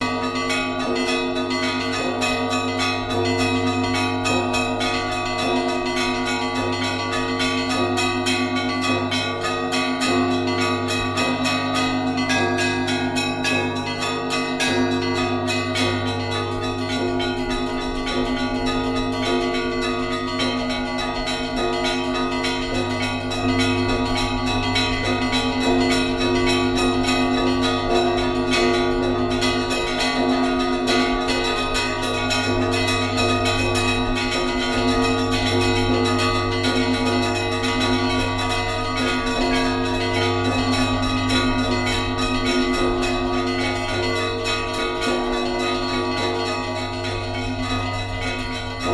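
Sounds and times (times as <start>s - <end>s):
large bells ringing deep: 0.0s - 48.9s.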